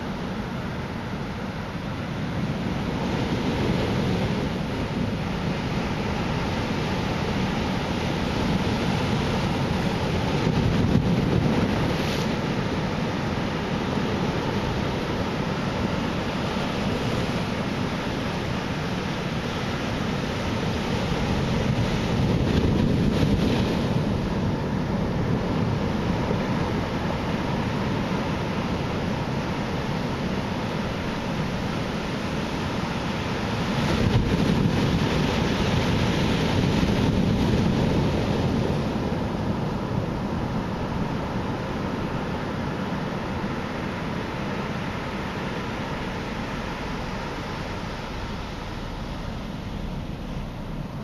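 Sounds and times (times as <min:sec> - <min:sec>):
ocean waves breaking on shore: 0:00.0 - 0:51.0.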